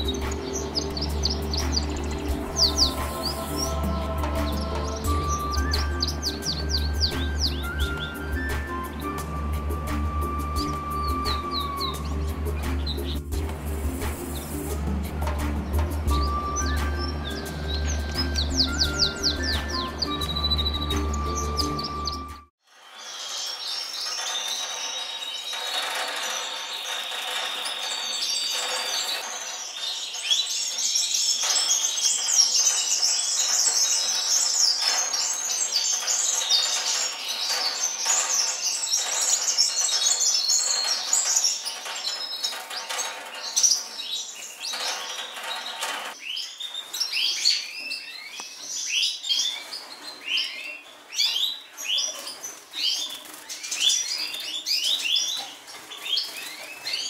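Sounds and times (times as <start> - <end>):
canaries singing: 0.0 - 57.0.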